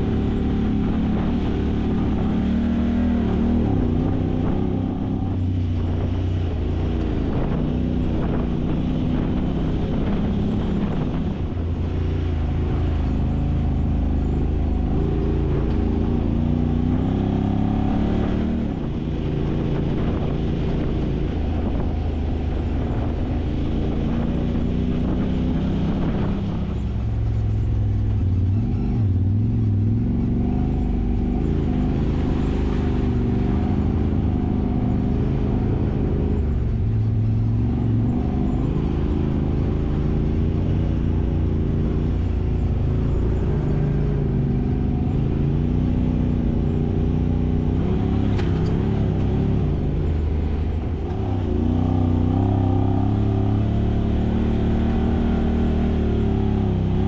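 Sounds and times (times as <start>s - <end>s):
utility vehicle engine revving: 0.0s - 57.0s.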